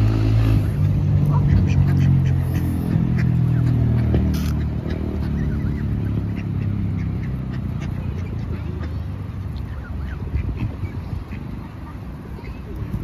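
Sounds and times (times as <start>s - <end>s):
ducks quacking: 0.6s - 13.0s.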